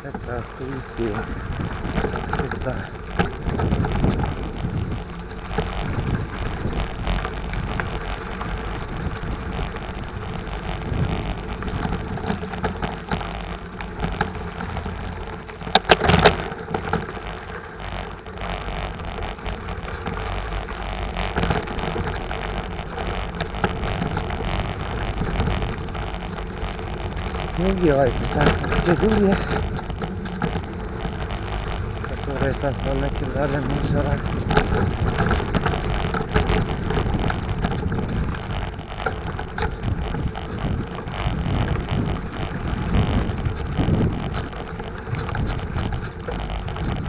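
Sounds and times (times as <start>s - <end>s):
bike rattling: 0.0s - 47.0s
tyres crackling over dirt: 0.0s - 47.0s.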